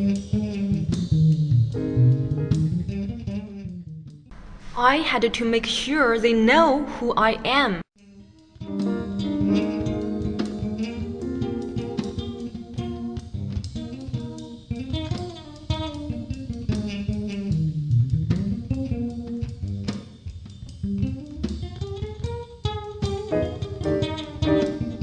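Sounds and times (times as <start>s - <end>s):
jazzy guitar music: 0.0s - 4.3s, 8.6s - 25.0s.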